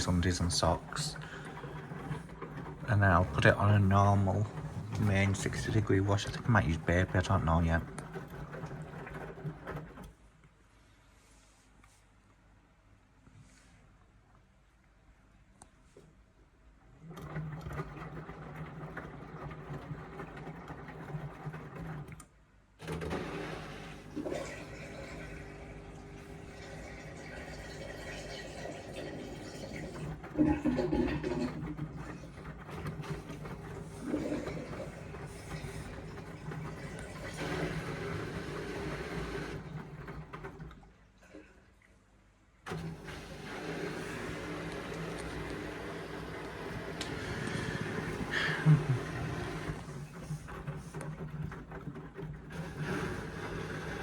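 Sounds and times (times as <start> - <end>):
washing machine water rushing: 0.0 - 10.2, 17.0 - 22.2, 22.8 - 41.4, 42.6 - 54.0.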